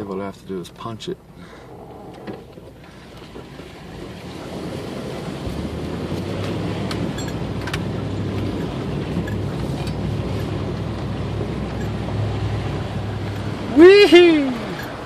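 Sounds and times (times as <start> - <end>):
water rushing against vehicle: 0.0 - 15.0
engine under load: 1.2 - 15.0.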